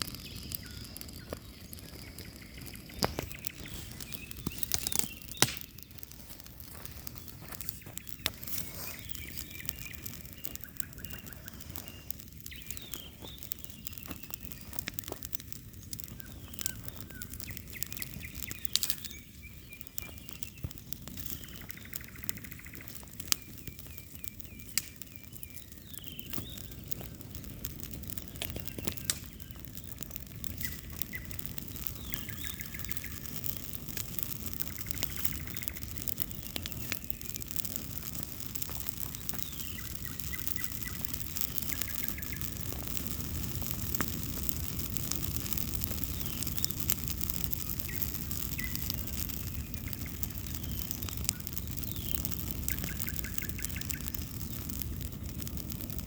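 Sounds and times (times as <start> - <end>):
bonfire crackling and popping: 0.0 - 56.0
small birds chirping: 0.0 - 56.0.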